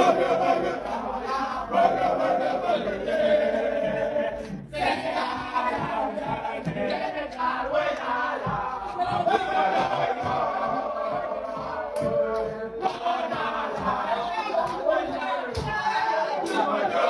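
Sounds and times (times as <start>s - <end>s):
group of men singing and chanting: 0.0s - 17.0s.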